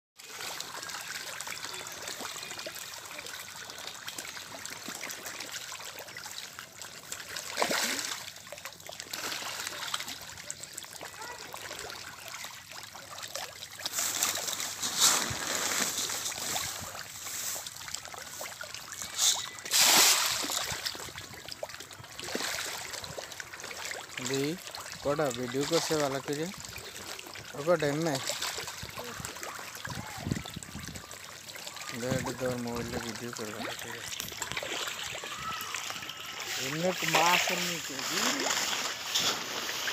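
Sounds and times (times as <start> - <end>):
fish splashing at water surface: 0.2 - 39.9.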